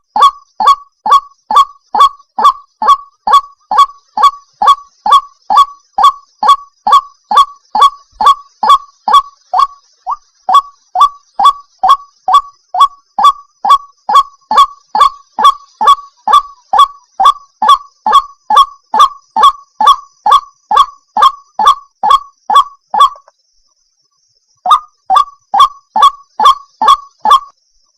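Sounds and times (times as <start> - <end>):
waterhen calling harsh notes: 0.0 - 23.3, 24.7 - 27.5.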